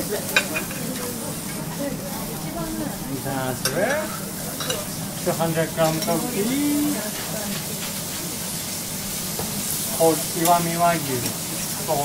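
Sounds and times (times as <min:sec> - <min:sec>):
beef sizzling on a griddle: 0:00.0 - 0:12.0.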